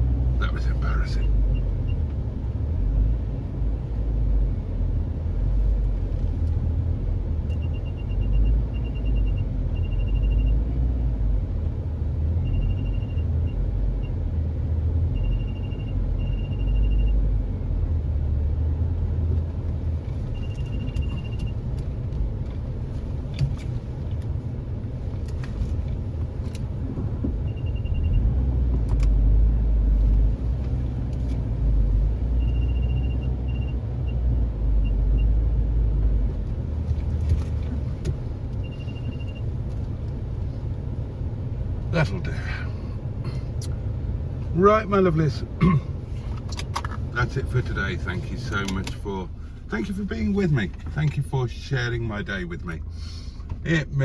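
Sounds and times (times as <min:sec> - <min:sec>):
car engine low rumble: 0:00.0 - 0:54.0.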